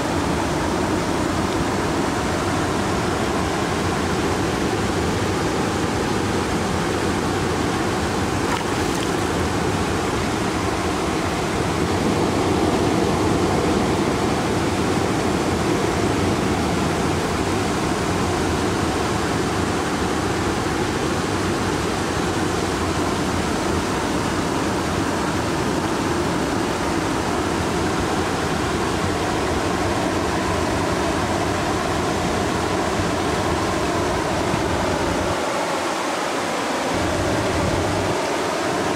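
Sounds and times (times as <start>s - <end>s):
river water rushing over weir: 0.0s - 38.9s.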